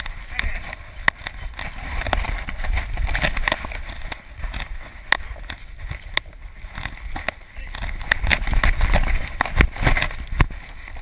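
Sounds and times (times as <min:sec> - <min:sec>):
low wind-like rumble: 0:00.0 - 0:11.0.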